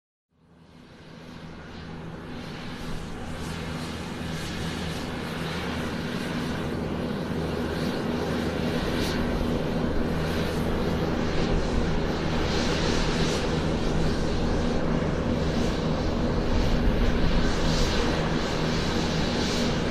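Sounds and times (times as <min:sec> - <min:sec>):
airplane engines humming: 0:00.4 - 0:19.9.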